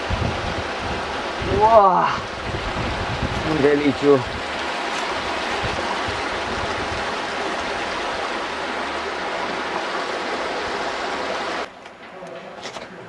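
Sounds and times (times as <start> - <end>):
stream water rushing over rocks: 0.0 - 11.7.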